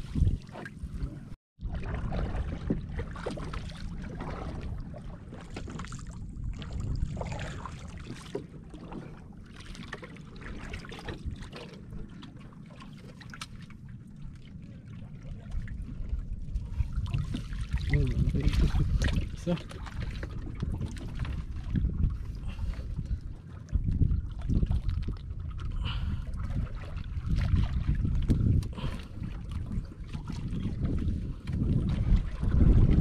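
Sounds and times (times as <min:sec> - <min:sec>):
low wind rumble on microphone: 0:00.0 - 0:09.6, 0:10.2 - 0:12.7, 0:13.7 - 0:33.0
water lapping and splashing: 0:00.0 - 0:33.0.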